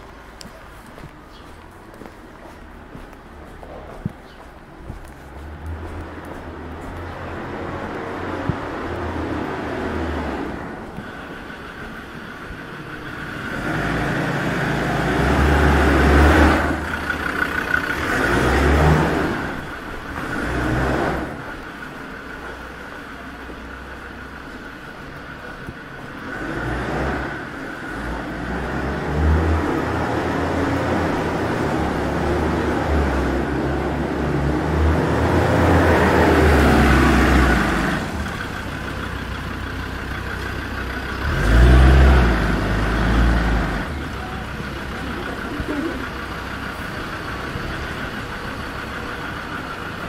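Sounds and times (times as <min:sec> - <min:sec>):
cars driving past: 0:00.0 - 0:50.0.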